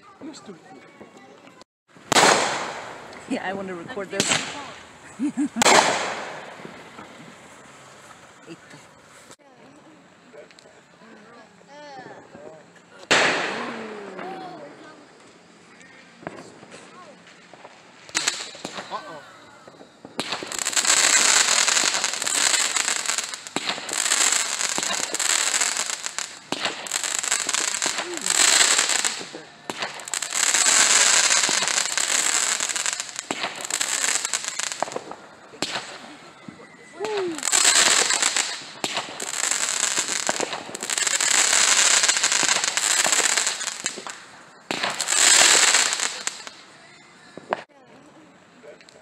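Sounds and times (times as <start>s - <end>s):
fireworks crackling: 0.0s - 47.7s.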